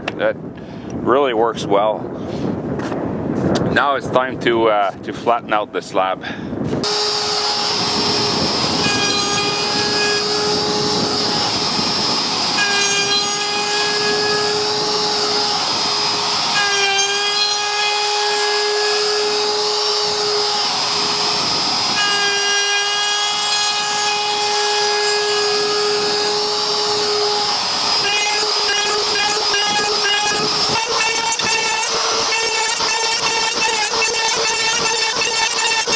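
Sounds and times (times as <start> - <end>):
electric router whining: 6.8 - 35.9.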